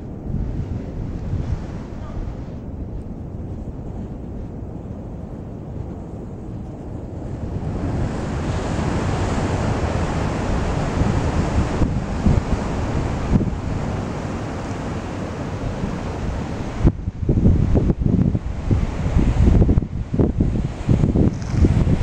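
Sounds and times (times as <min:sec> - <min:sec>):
ocean surf: 0:00.0 - 0:22.0
wind buffeting microphone: 0:00.0 - 0:22.0.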